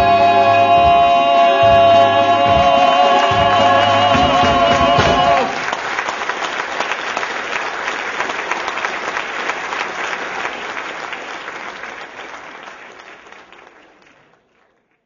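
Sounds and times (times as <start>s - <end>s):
audience applauding: 1.2s - 15.0s.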